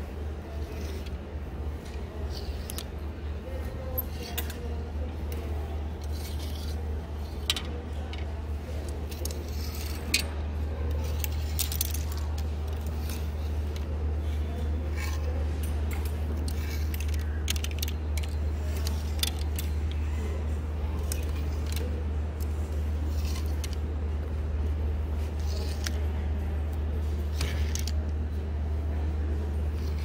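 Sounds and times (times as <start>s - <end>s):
plastic hangers clacking on a rack: 0.0s - 20.0s, 20.9s - 24.3s, 25.2s - 28.2s
steady low hum: 0.0s - 30.0s.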